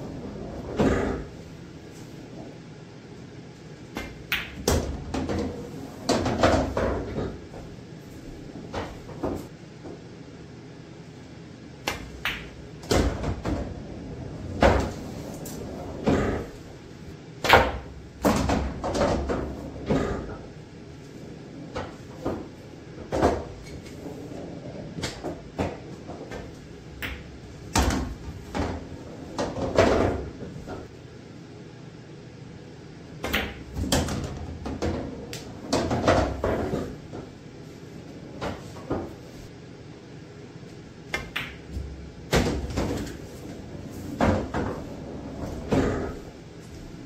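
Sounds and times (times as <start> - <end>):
pool balls knocking and clacking: 0.0 - 1.4, 3.9 - 10.0, 11.8 - 30.9, 33.1 - 39.5, 41.1 - 46.9.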